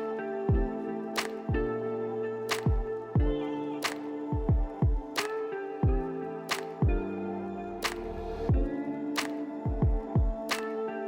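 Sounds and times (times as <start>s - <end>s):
background music with slow beat: 0.0s - 11.0s.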